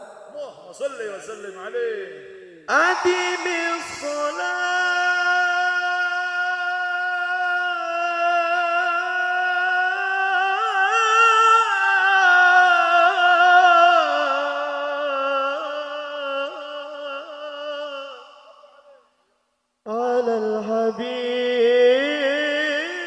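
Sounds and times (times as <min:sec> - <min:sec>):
person singing unaccompanied: 0:02.6 - 0:18.5, 0:19.9 - 0:23.0.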